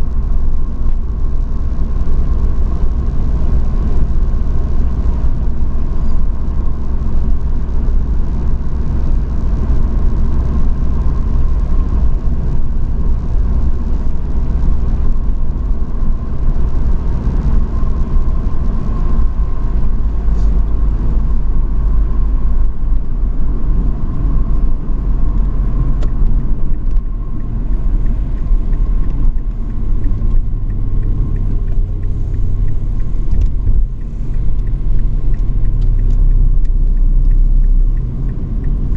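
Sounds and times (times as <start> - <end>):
faint steady whine: 0.0 - 38.9
truck engine and road rumble: 0.0 - 38.9.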